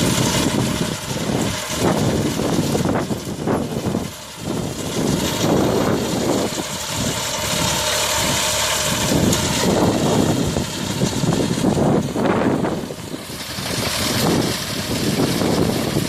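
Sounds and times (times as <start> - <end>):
steady whine: 0.0 - 16.0
tractor engine running: 0.0 - 16.0.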